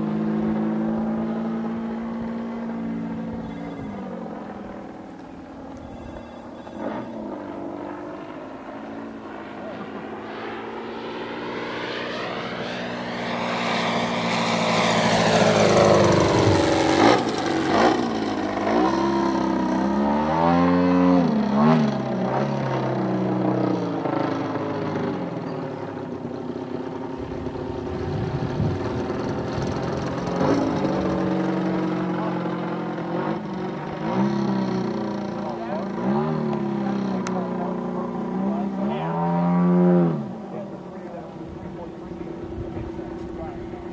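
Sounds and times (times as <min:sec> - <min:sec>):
model airplane engine and propeller: 0:00.0 - 0:43.9.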